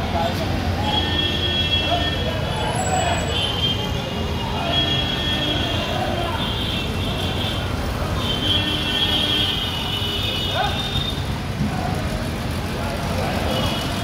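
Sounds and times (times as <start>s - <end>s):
busy street traffic: 0.0s - 14.0s
people's voices: 0.0s - 14.0s.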